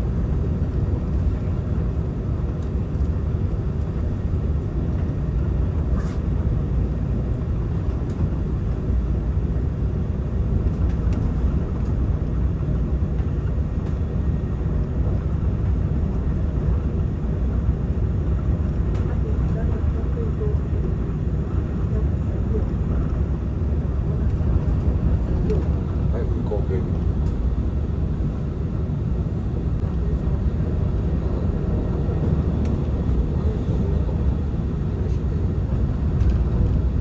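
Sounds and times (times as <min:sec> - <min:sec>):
train rumble from inside car: 0:00.0 - 0:37.0.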